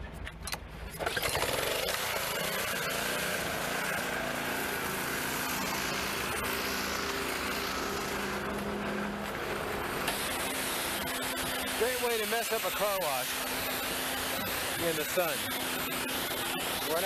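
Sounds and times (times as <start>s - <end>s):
pressure washer engine running: 1.0s - 17.0s.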